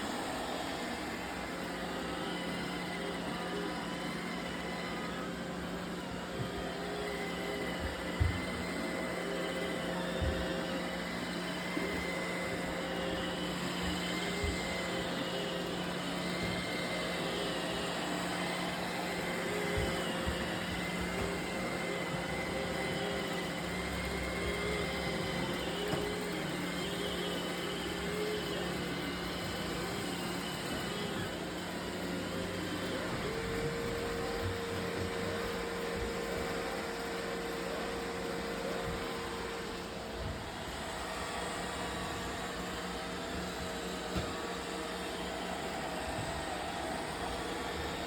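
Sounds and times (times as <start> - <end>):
robot vacuum whirring: 0.0 - 48.0.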